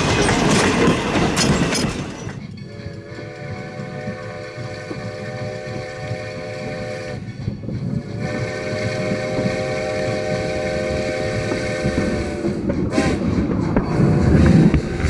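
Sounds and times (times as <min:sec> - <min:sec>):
low rumble of train: 0:00.0 - 0:15.0
steam locomotive chime whistle: 0:02.2 - 0:14.5.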